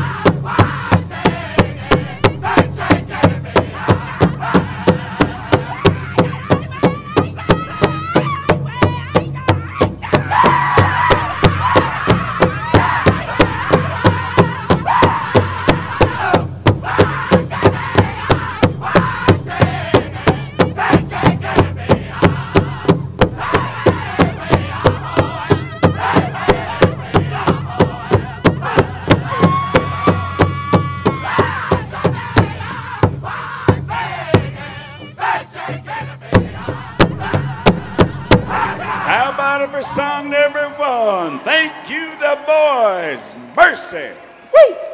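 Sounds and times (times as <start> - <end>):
big drum beat: 0.0 - 39.7
men singing in high voices: 0.0 - 40.6.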